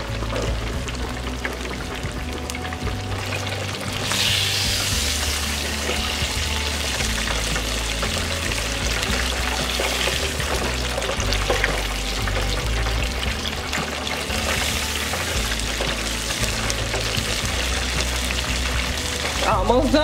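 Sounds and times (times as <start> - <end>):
background music with bass: 0.0 - 20.0
fish frying in hot oil: 0.0 - 20.0.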